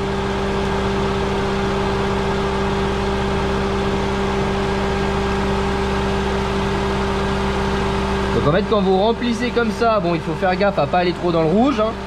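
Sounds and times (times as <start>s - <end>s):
air-conditioning compressor hum: 0.0s - 12.0s.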